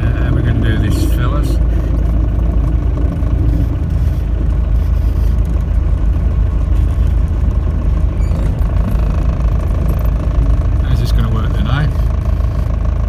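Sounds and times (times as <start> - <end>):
engine running: 0.0 - 13.0
tyres on road: 0.0 - 13.0.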